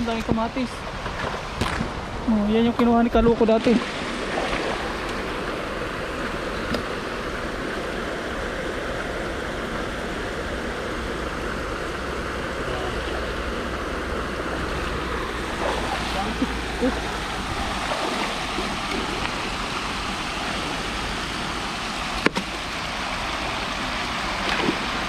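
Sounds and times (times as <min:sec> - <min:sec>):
stream water running: 0:00.0 - 0:25.0.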